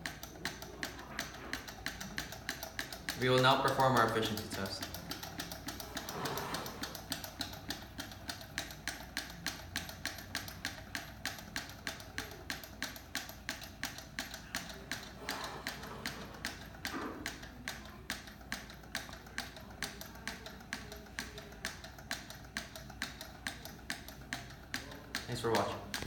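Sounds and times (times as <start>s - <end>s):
stirling engine linkage clicking: 0.0s - 26.0s.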